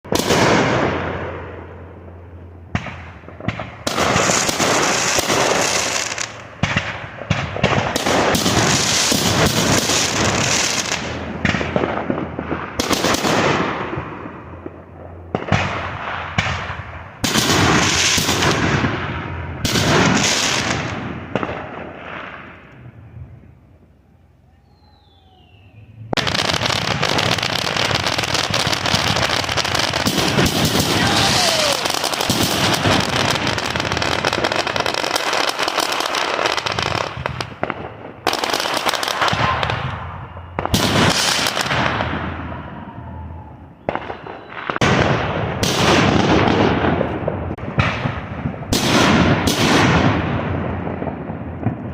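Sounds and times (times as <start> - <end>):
fireworks bangs and pops: 0.0 - 23.4, 26.1 - 42.6, 43.8 - 51.9
fireworks crackle and hiss: 0.0 - 23.5, 24.5 - 51.9.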